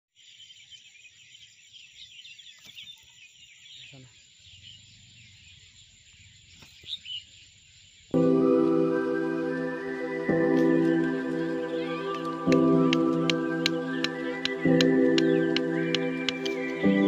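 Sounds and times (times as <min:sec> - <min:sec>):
small birds chirping: 0:00.0 - 0:08.2, 0:10.5 - 0:17.0.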